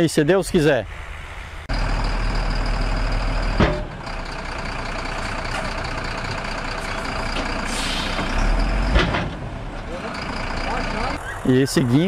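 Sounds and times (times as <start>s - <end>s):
heavy vehicle engine running: 0.5s - 12.0s.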